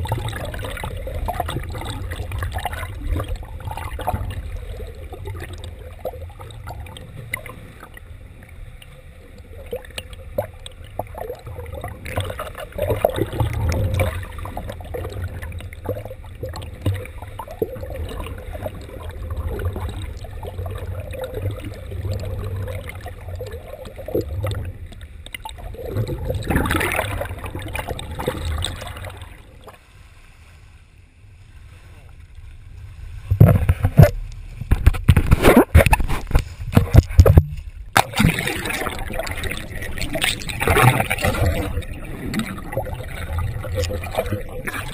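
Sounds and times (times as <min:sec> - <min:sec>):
muffled underwater rumble: 0:00.0 - 0:44.9
rush of water: 0:00.0 - 0:44.9.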